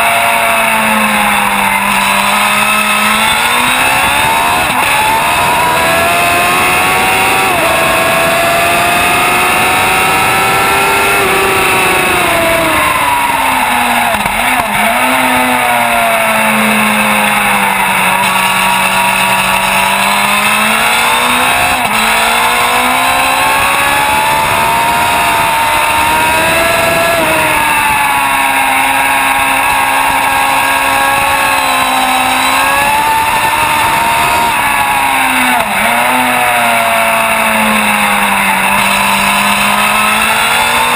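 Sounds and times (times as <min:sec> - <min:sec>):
sport bike engine revving: 0:00.0 - 0:40.9.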